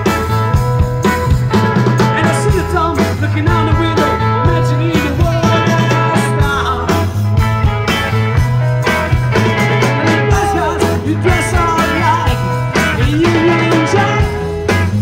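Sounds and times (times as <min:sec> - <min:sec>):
live rock band playing: 0:00.0 - 0:15.0
steady drum beat: 0:00.0 - 0:15.0.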